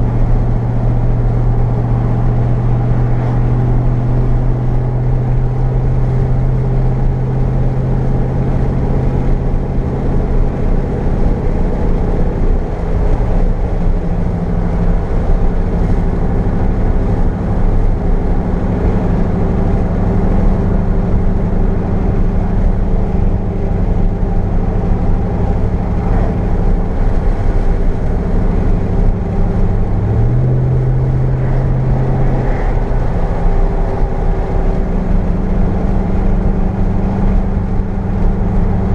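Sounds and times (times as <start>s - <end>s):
truck engine hum: 0.0s - 38.9s
tyre and road noise: 0.0s - 38.9s.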